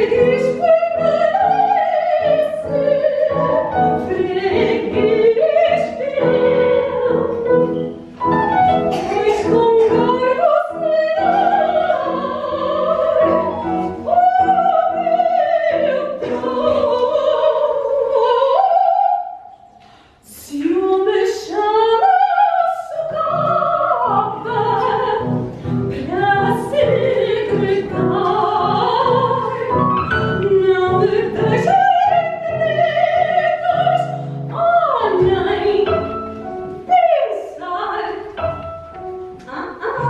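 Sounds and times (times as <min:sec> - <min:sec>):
soprano singing opera: 0:00.0 - 0:07.8, 0:08.8 - 0:19.5, 0:20.2 - 0:38.7, 0:39.4 - 0:40.0
piano accompaniment: 0:00.0 - 0:19.7, 0:20.5 - 0:40.0.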